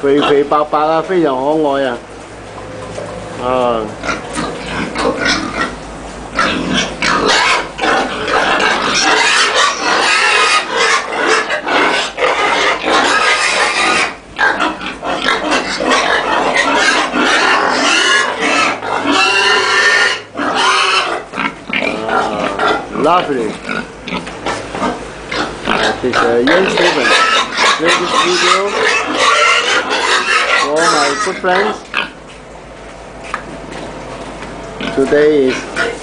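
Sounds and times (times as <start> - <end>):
pigs squealing: 0.0 - 32.7, 33.4 - 36.0.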